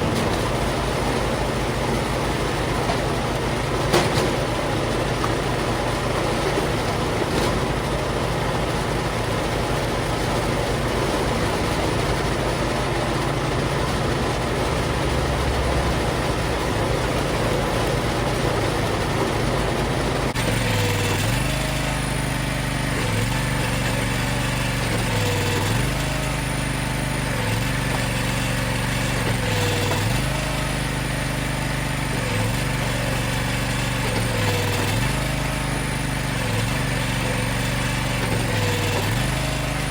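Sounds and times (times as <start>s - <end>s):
engine running steadily: 0.0s - 39.9s
engine with dipping pitch: 4.6s - 39.9s.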